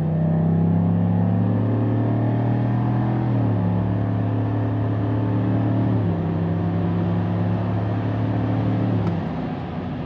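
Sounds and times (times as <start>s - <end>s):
car engine accelerating hard: 0.0s - 9.8s.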